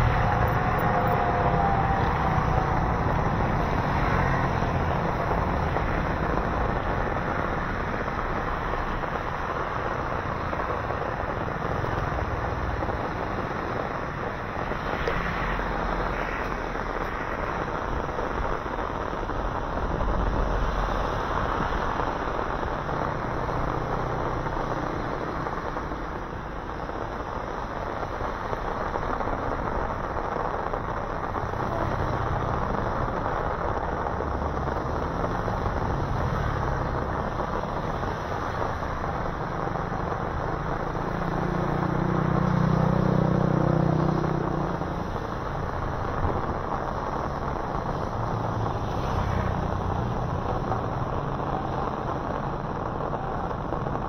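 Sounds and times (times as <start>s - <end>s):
heavy rain: 0.0s - 54.0s
tyre hiss on wet asphalt: 0.0s - 54.0s
vehicle engine hum: 0.0s - 54.0s.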